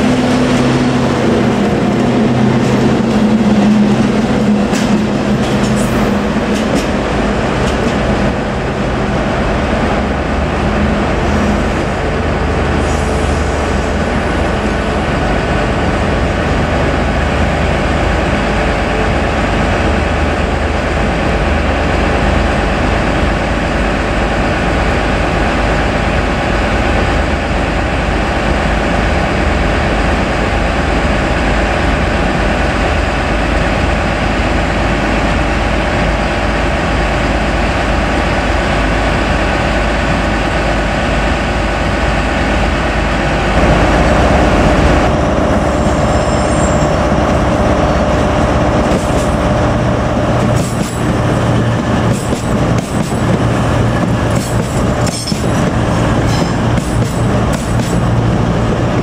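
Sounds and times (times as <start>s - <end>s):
diesel train engines running: 0.0s - 59.0s.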